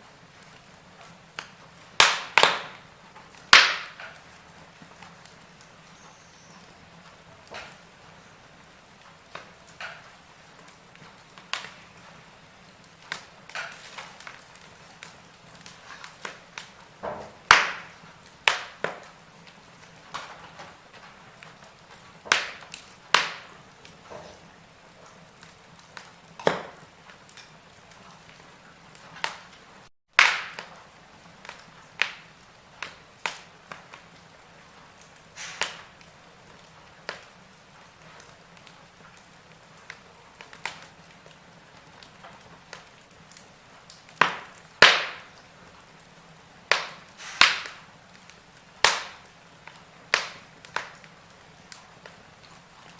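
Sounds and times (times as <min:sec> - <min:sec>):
faint steady hiss: 0:00.0 - 0:52.9
wood fire pops and snaps: 0:00.0 - 0:52.9.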